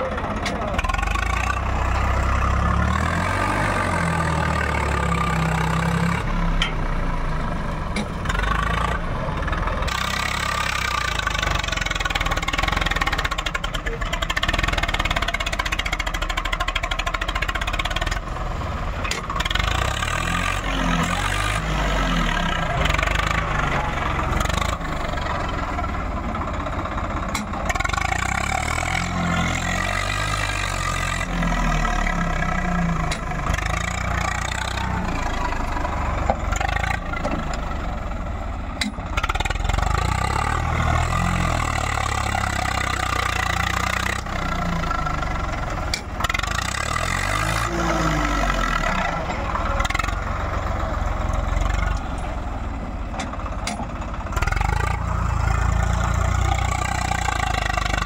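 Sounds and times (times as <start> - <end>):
tractor diesel engine under load: 0.0 - 58.0
dozer blade pushing soil: 7.9 - 38.0, 38.7 - 58.0.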